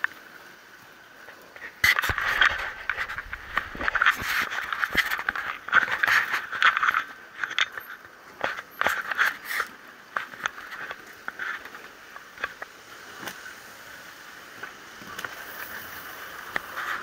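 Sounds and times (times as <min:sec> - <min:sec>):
street hiss: 0:00.1 - 0:17.0.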